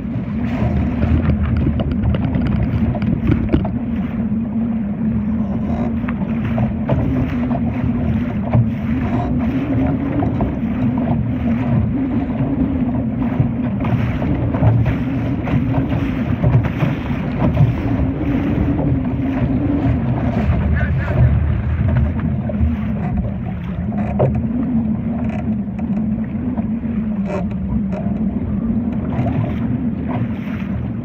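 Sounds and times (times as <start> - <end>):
water splashing against hull: 0.0 - 31.0
wind buffeting microphone: 0.0 - 31.0.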